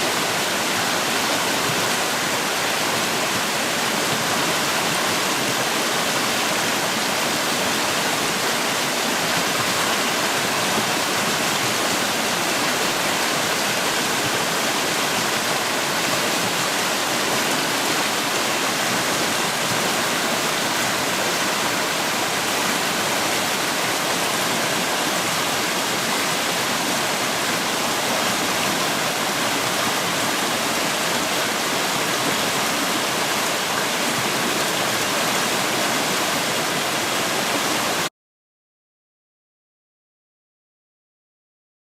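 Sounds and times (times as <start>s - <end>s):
creek water rushing: 0.0s - 38.1s.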